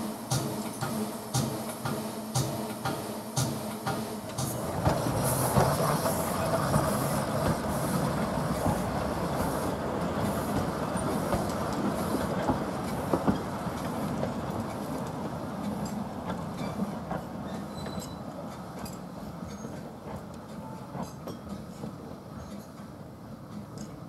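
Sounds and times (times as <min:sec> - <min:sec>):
train wheels rumbling and rattling: 0:00.0 - 0:24.0.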